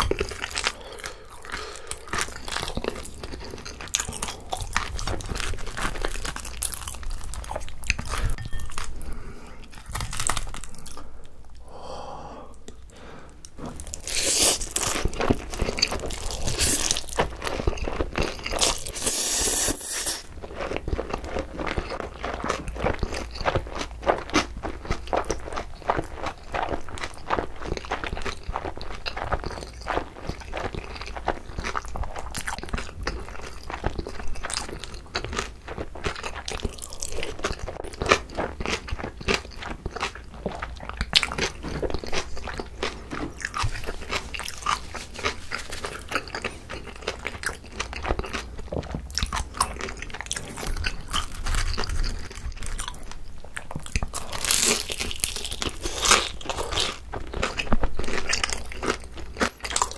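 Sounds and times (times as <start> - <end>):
close chewing and crunching: 0.0 - 11.6, 12.7 - 59.9.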